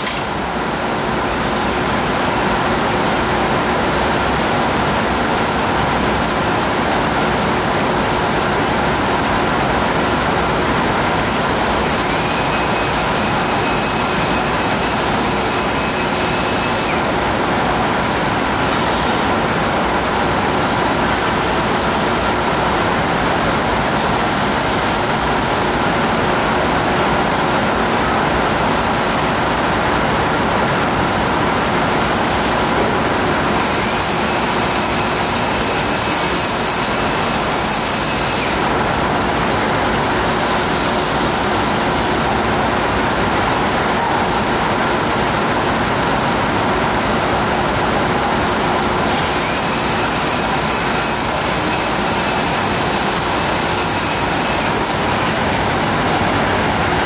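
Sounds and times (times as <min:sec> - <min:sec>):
factory machinery hiss: 0:00.0 - 0:57.0.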